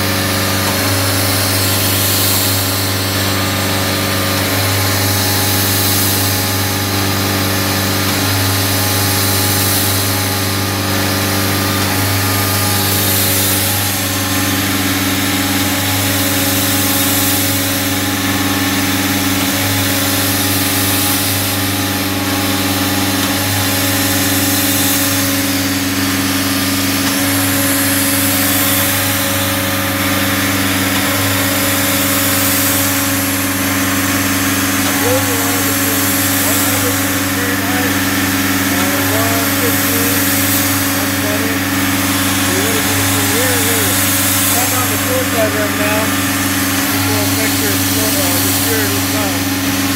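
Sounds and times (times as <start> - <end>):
machine hum: 0.0 - 49.9.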